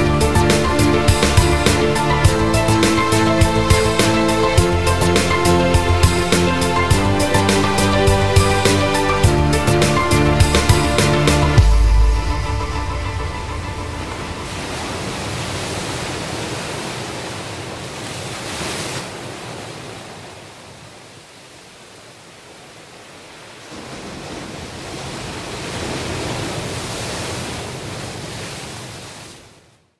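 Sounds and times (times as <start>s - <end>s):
rushing noise like surf: 0.0s - 29.5s.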